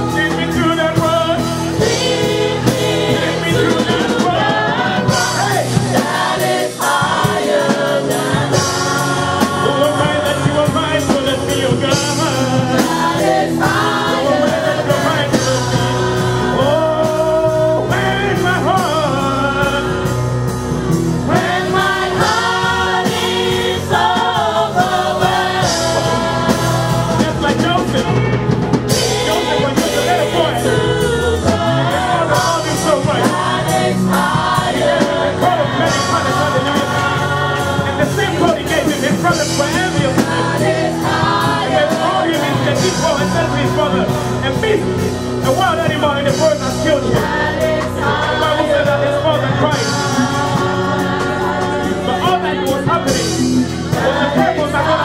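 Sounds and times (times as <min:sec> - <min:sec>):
man singing lead: 0:00.0 - 0:20.2, 0:23.8 - 0:55.0
drums: 0:00.0 - 0:55.0
women singing: 0:01.3 - 0:10.5, 0:11.9 - 0:18.9, 0:21.3 - 0:28.3, 0:28.9 - 0:38.5, 0:39.8 - 0:44.5, 0:47.0 - 0:55.0.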